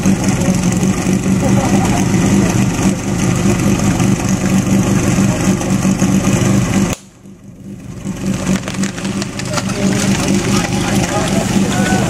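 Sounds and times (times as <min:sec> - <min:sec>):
pump engine idling: 0:00.0 - 0:12.0.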